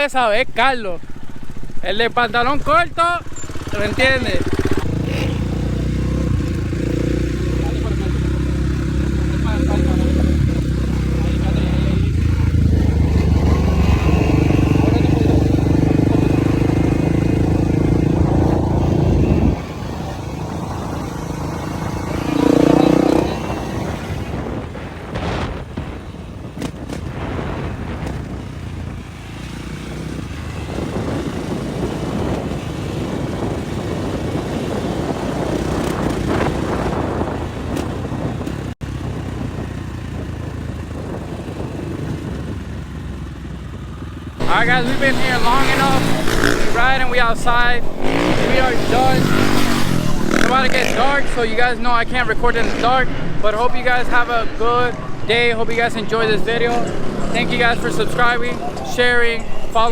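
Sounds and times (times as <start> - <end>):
motorcycle engine running: 1.0 - 59.9.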